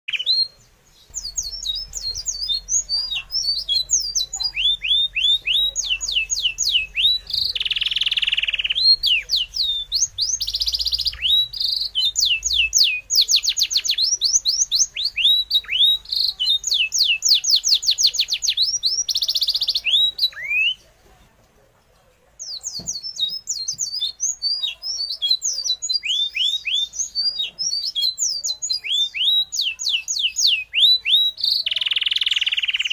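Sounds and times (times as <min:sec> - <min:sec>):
bird chirping: 0:00.0 - 0:21.0, 0:22.4 - 0:32.9.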